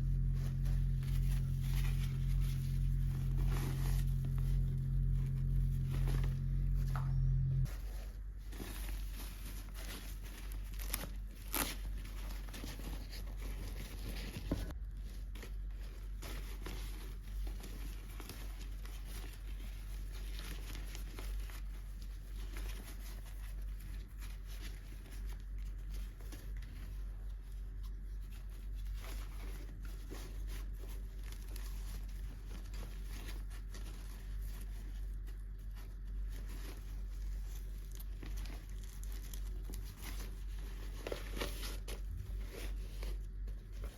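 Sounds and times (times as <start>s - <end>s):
plastic and paper crinkling: 0.0s - 43.9s.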